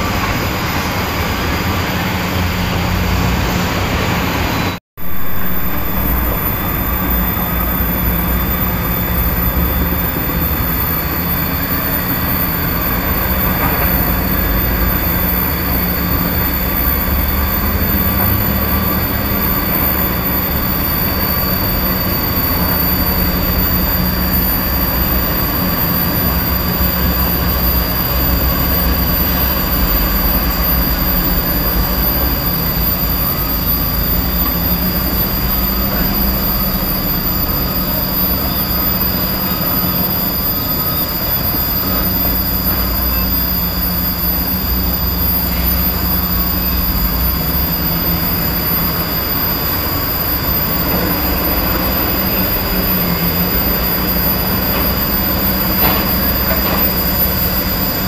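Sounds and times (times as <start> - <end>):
heavy diesel machinery droning: 0.0 - 58.0
high machinery whine: 0.0 - 58.0.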